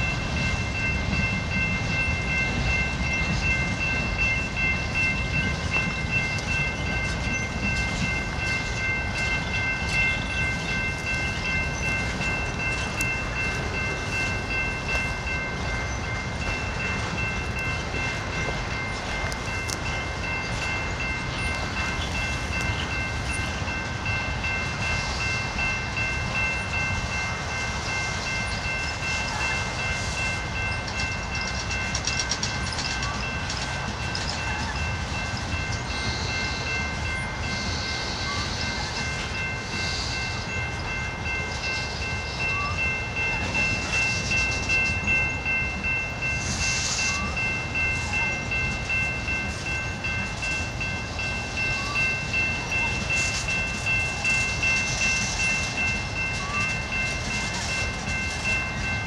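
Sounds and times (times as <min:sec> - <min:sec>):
freight train rumble and rattle: 0:00.0 - 0:59.0
high-pitched ringing tones: 0:00.0 - 0:59.0
wheel clatter at rail joints: 0:00.0 - 0:59.0.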